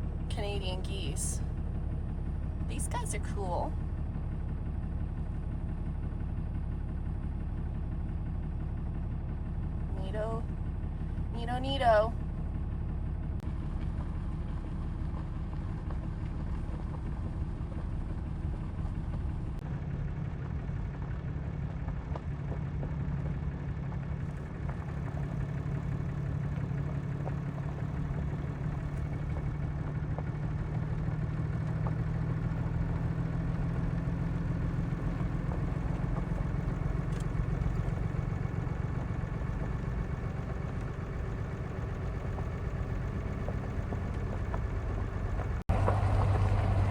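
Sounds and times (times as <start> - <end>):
truck engine humming: 0.0 - 46.9.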